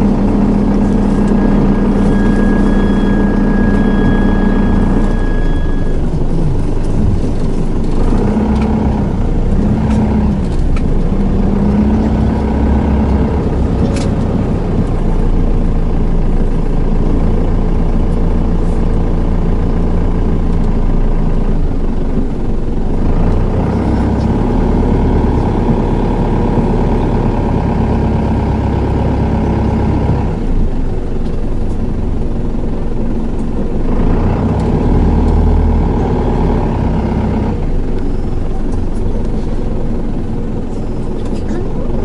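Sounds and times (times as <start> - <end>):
minibus diesel engine hum: 0.0 - 42.0.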